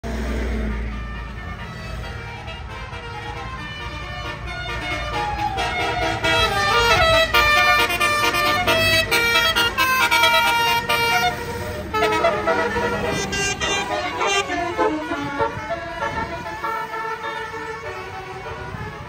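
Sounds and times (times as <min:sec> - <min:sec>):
bus musical air horn melody: 0:00.3 - 0:19.0.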